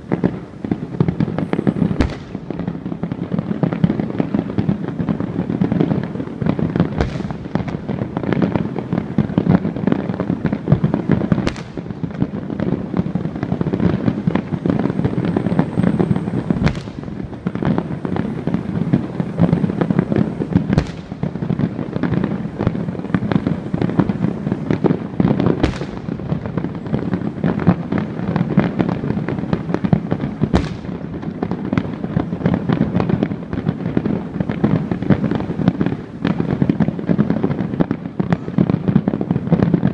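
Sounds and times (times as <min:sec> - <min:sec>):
fireworks bangs: 0:00.0 - 0:39.9
fireworks crackling and popping: 0:00.0 - 0:39.9.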